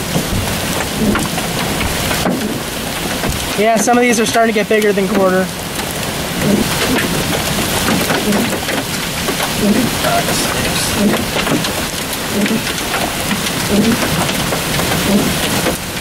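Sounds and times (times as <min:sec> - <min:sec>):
hailstones striking: 0:00.0 - 0:16.0
heavy rain hissing: 0:00.0 - 0:16.0.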